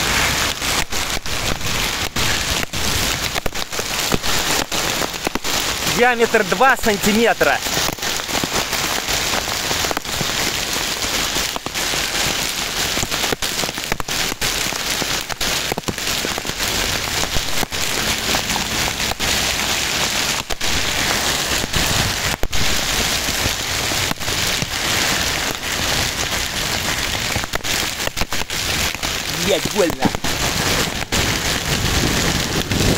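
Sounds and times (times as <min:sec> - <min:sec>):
hail and rain on asphalt: 0:00.0 - 0:32.9.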